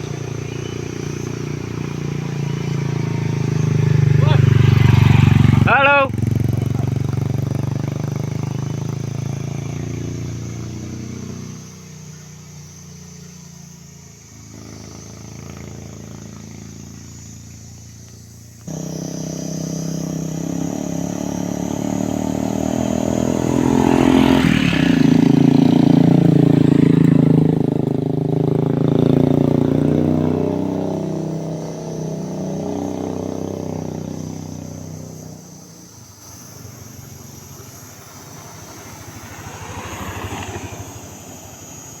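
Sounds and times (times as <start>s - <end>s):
vehicle engine revving: 0.0s - 42.0s.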